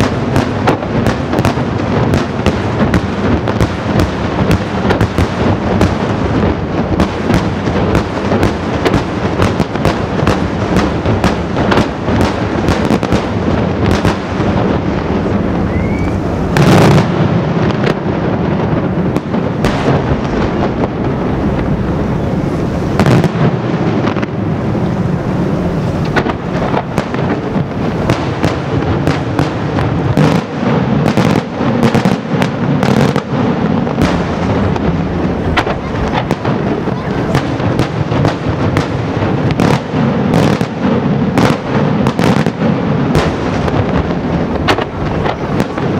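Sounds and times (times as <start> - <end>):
fireworks bangs: 0.0 - 45.9
heavy firework boom: 0.0 - 45.9.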